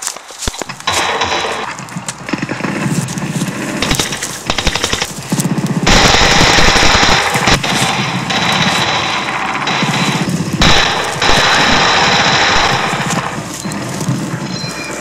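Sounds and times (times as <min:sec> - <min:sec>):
automatic gunfire: 0:00.5 - 0:02.9, 0:03.8 - 0:13.5.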